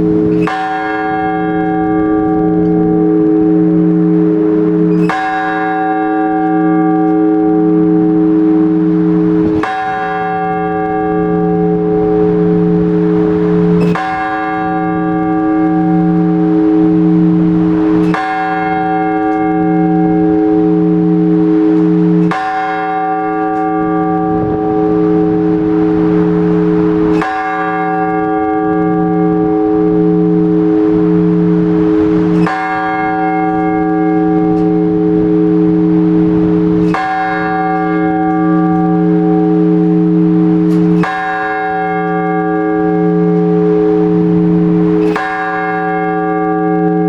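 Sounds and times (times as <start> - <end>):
large church bell strokes: 0.0 - 47.0
low pulsing hum: 0.0 - 47.0.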